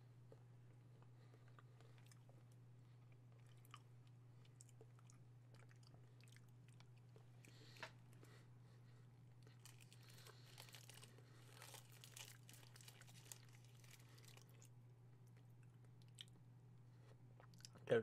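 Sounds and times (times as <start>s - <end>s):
steady low hum: 0.0s - 18.0s
faint chewing: 0.2s - 17.9s.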